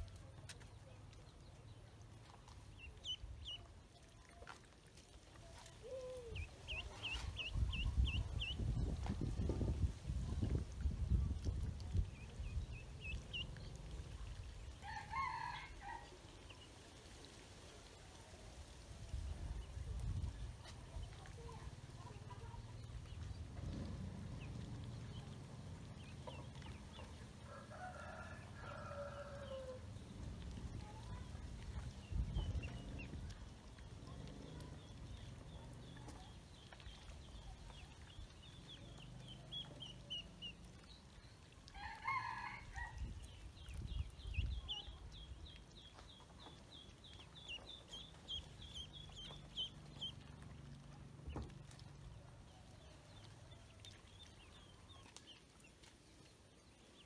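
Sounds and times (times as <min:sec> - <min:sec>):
ducklings and chick peeping: 0:00.0 - 0:17.3, 0:19.1 - 0:57.0.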